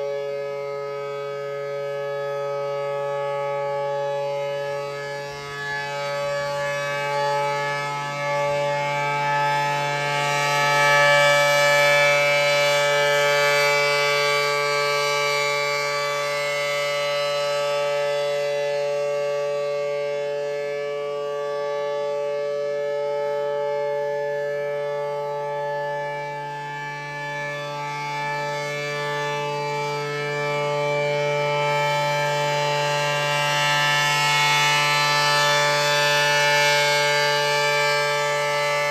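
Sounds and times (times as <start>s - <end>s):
tornado siren: 0.0s - 38.9s.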